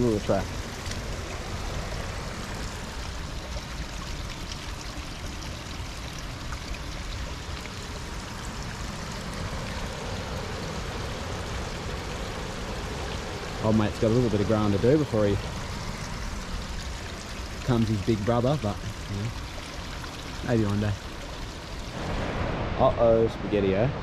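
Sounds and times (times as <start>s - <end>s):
stream splashing over rocks: 0.0s - 23.0s.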